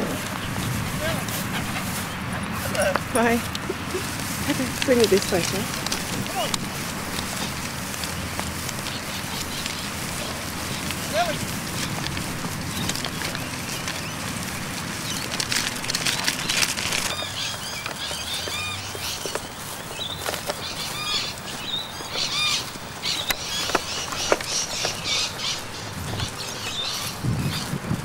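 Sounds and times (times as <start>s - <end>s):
outdoor rustle: 0.0s - 28.0s
small birds chirping: 0.0s - 28.0s.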